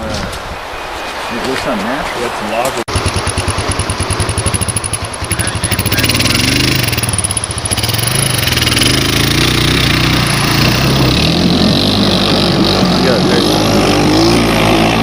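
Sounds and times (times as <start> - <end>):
dirt bike engine revving: 2.9 - 15.0.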